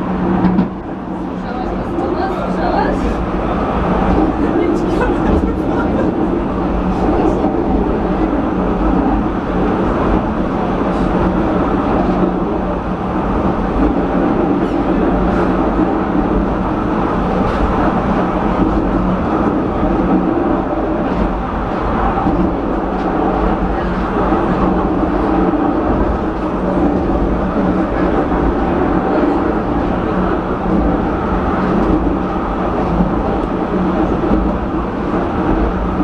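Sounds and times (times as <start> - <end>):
funicular car rumbling on rails: 0.0 - 36.0.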